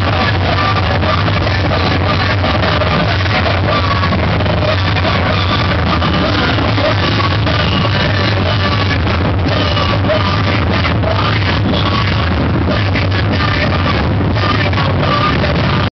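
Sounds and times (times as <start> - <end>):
noise rock band playing: 0.0 - 15.9.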